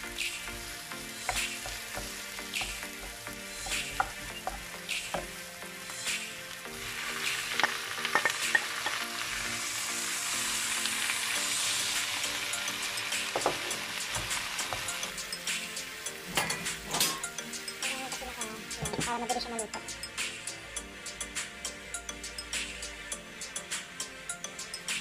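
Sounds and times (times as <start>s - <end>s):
onion sizzling in oil: 0.0s - 22.8s.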